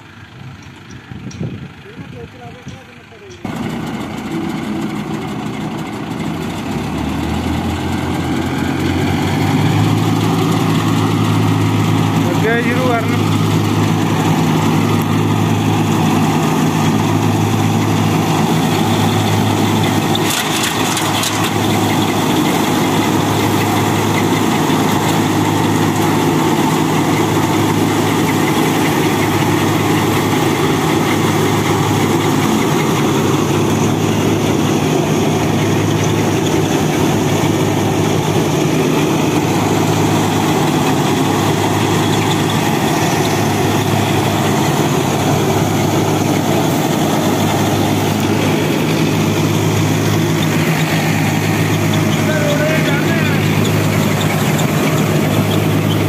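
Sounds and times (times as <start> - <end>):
tractor diesel engine under load: 0.0 - 56.0
reaper rotor and blower churning: 1.1 - 56.0.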